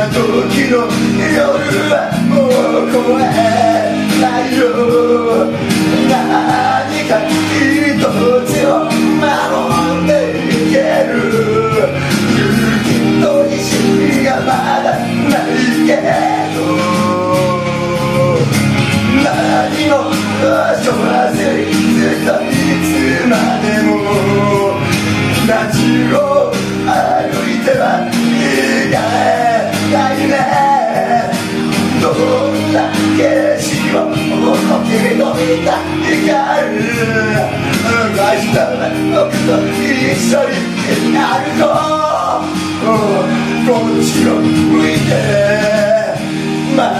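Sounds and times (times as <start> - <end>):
karaoke backing track with drums: 0.0 - 46.9
man singing into microphone: 0.0 - 46.9.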